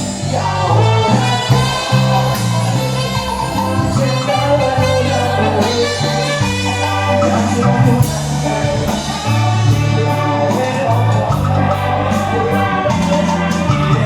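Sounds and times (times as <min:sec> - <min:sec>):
bass line: 0:00.0 - 0:14.0
guitar: 0:00.0 - 0:14.0
live band playing: 0:00.0 - 0:14.0
person singing: 0:00.0 - 0:14.0
drum beat: 0:01.1 - 0:14.0.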